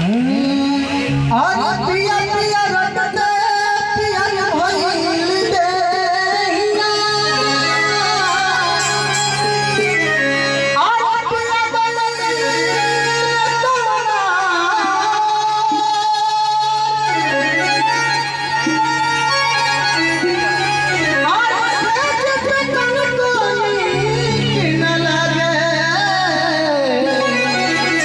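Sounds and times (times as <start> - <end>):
electronic keyboard accompaniment: 0.0 - 28.0
man singing into microphone: 0.0 - 28.0.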